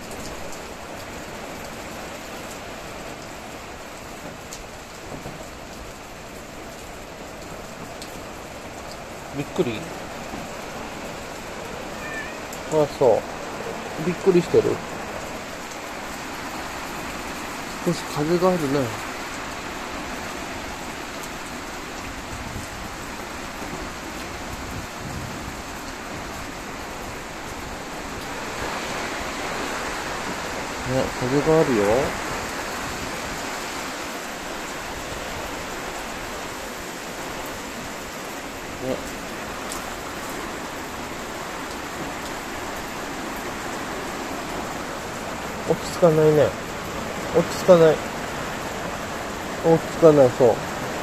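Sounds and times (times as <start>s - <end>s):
wind and rain rushing: 0.0s - 51.0s.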